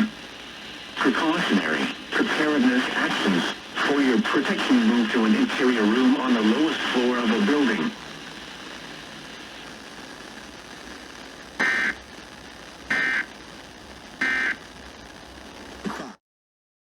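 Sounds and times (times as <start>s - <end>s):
radio hiss: 0.0s - 16.2s.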